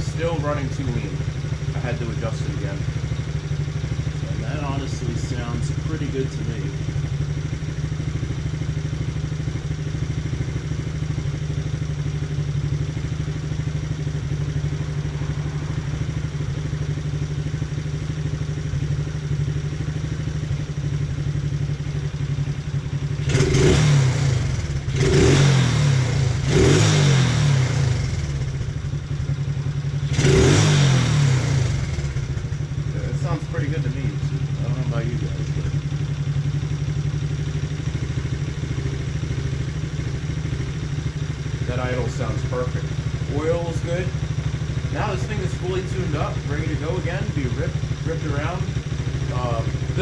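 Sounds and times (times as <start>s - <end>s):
small engine idling and revving: 0.0s - 50.0s.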